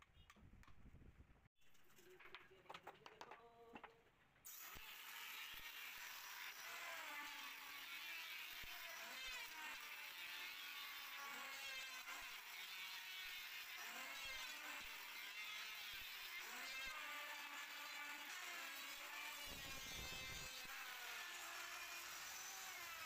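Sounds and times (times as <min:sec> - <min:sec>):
electric planer whining: 0:04.5 - 0:23.0.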